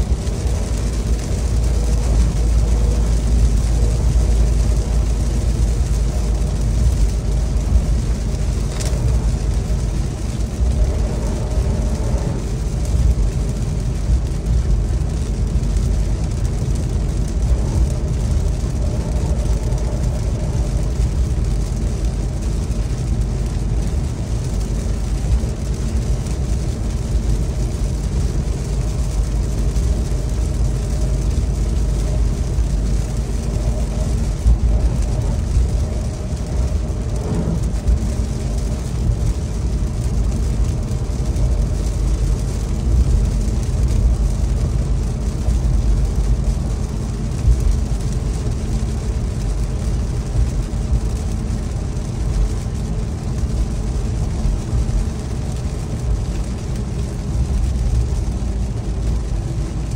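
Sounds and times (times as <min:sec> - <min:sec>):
in-cabin road drone: 0:00.0 - 0:59.9
tyre hiss on wet road: 0:00.0 - 0:59.9.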